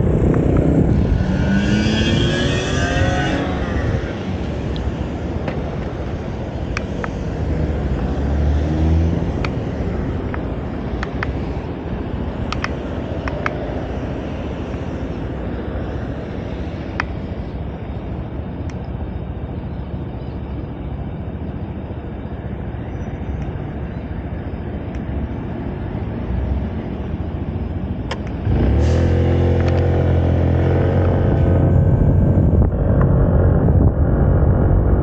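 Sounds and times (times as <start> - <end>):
deep steady engine drone: 0.0 - 35.0
scooter engine hum: 0.0 - 35.0
wind and road noise: 0.0 - 35.0.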